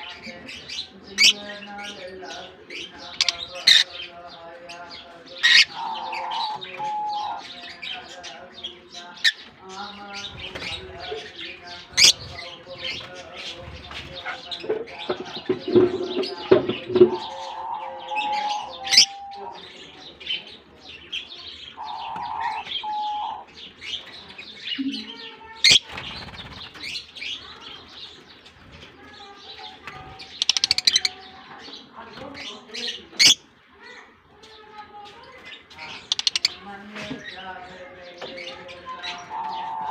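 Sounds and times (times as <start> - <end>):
lovebirds chirping and chattering: 0.0 - 39.9.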